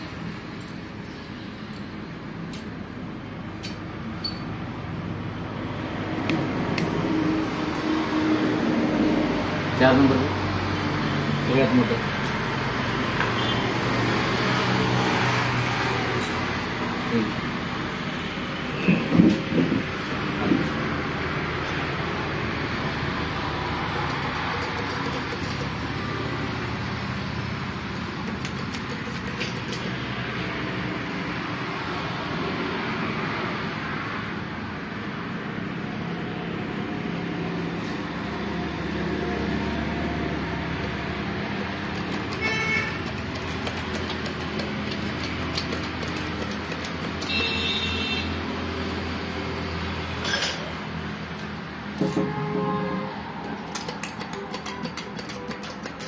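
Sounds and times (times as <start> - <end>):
traffic noise with engine hum: 0.0 - 56.0.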